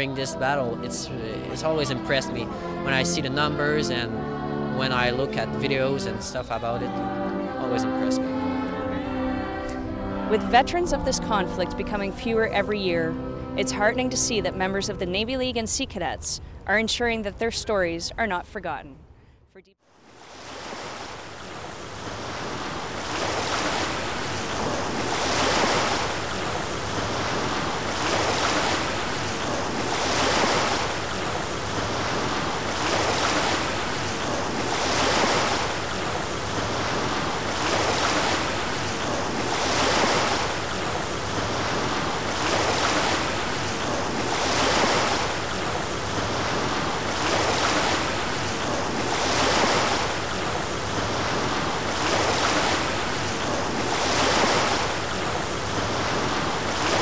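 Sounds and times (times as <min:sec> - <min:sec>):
ocean waves washing in: 0:00.0 - 0:16.6, 0:19.8 - 0:57.0.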